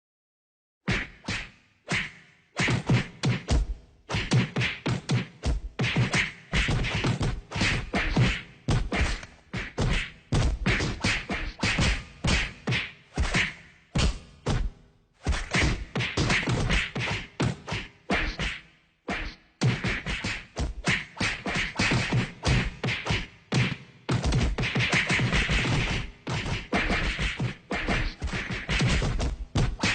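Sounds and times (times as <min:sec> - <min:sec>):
punches and slaps: 0:00.9 - 0:29.9.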